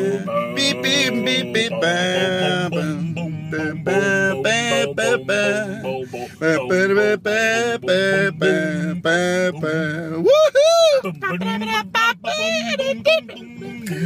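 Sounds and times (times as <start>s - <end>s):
men singing together: 0.0s - 10.3s, 11.0s - 14.0s.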